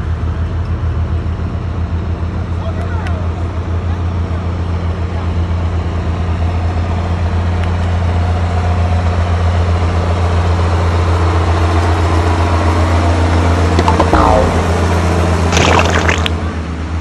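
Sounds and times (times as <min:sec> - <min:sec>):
tractor diesel engines: 0:00.0 - 0:15.5.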